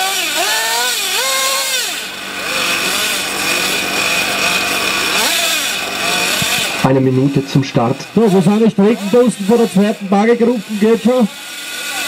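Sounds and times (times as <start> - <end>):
small engine revving and idling: 0.0 - 12.0.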